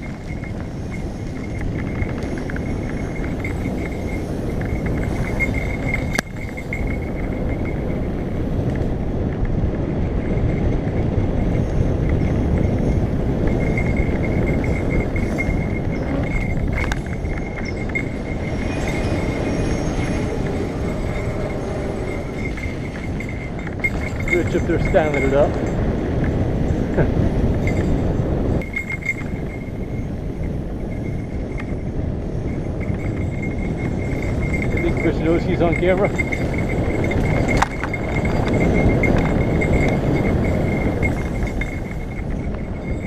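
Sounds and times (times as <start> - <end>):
bike tyres rumbling on dirt: 0.0 - 43.0
wind buffeting camera: 0.0 - 43.0.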